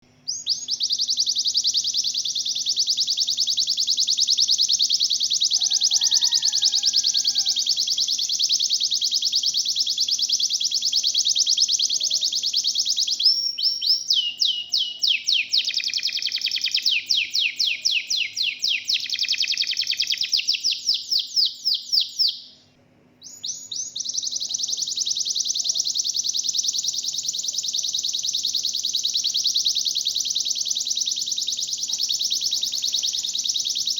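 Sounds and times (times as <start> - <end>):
canary singing trill: 0.0 - 33.9.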